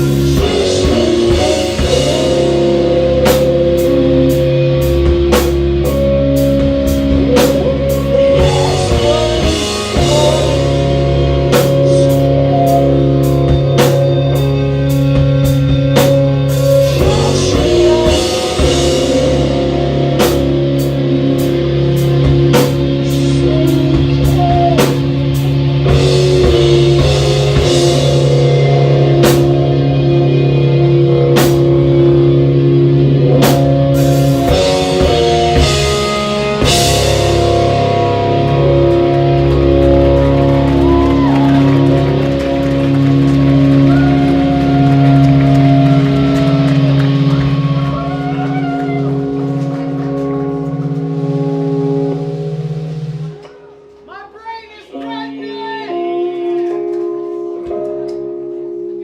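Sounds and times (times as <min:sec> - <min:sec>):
electric guitars sustained chords: 0:00.0 - 0:54.1, 0:54.9 - 0:59.0
drum kit steady beat: 0:00.0 - 0:55.7
bass line: 0:00.0 - 0:59.0.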